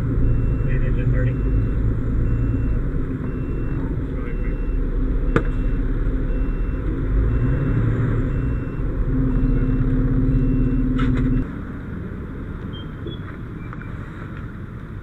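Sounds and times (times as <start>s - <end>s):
fire truck engine hum: 0.0s - 15.0s.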